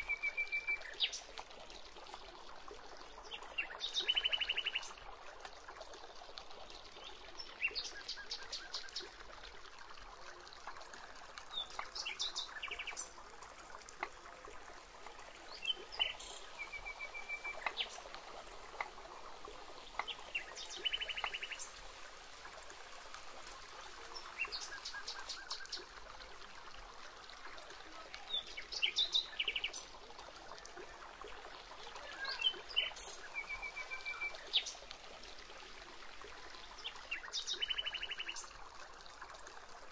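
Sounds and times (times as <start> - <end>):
faint outdoor hiss: 0.0 - 39.9.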